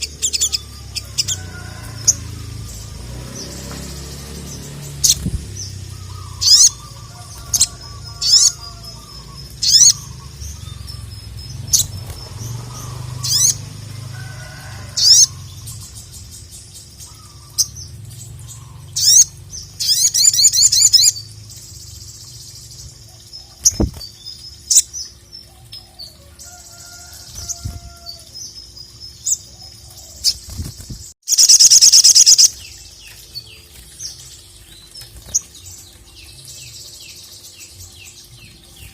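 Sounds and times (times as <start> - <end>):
sunbird chirping and trilling: 0.0 - 38.9.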